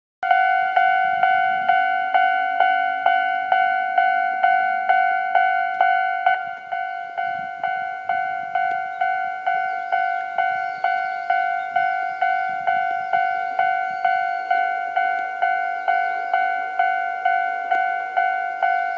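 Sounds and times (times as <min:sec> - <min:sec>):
level-crossing warning bell: 0:00.2 - 0:18.9.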